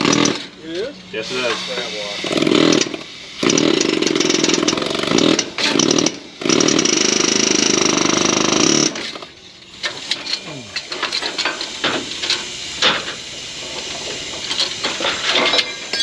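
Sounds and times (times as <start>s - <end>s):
power tool running in bursts: 0.0s - 15.5s.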